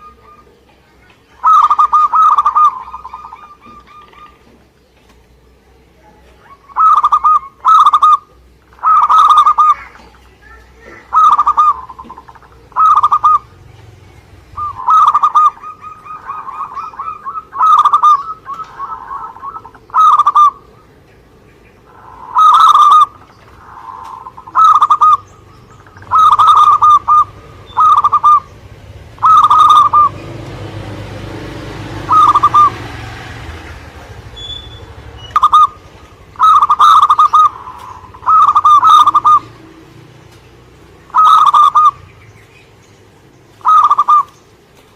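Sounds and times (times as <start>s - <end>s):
dove cooing: 0.0s - 42.2s, 43.5s - 44.9s.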